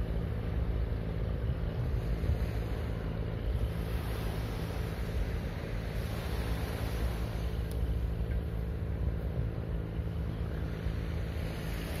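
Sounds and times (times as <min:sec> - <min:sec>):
small waves washing ashore: 0:00.0 - 0:12.0
steady low rumble: 0:00.0 - 0:12.0.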